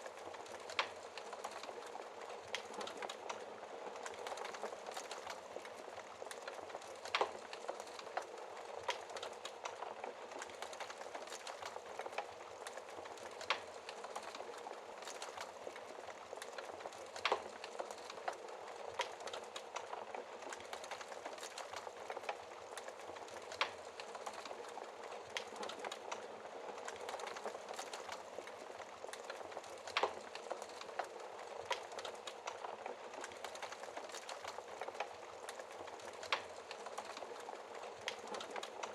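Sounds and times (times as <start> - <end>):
fire pops and snaps: 0.0 - 38.9
wood fire crackling: 0.0 - 38.9.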